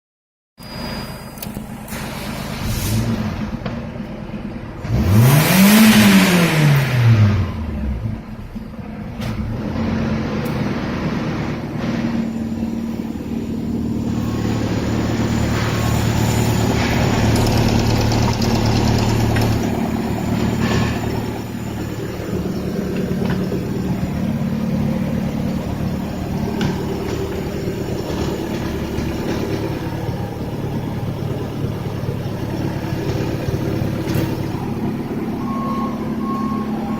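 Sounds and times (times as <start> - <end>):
car engine idling: 3.4 - 36.9.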